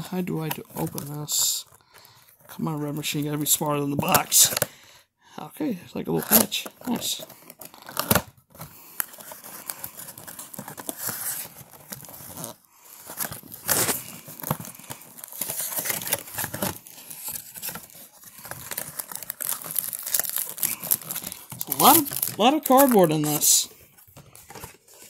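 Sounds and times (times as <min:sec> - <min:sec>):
cardboard rustling and tearing: 0:00.0 - 0:04.7, 0:06.2 - 0:25.0.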